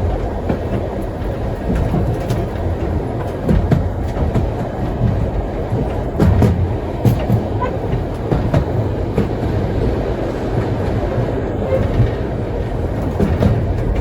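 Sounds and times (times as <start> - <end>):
rail joint clicks: 0.0 - 14.0
train wheels rumbling on rails: 0.0 - 14.0.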